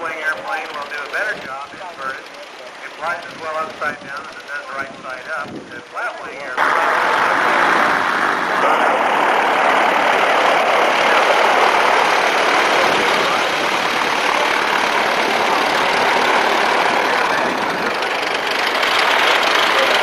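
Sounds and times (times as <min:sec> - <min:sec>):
airplane engine drone overhead: 0:00.0 - 0:20.0.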